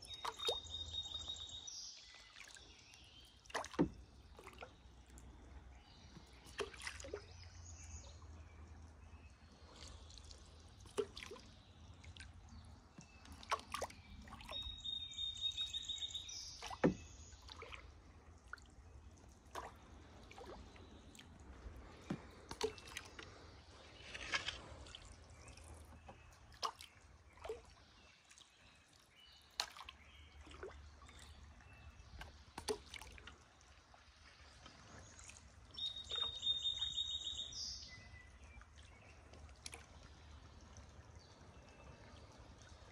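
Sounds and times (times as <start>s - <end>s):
paddle splashes: 0.0s - 42.9s
water dripping off paddle: 0.0s - 42.9s.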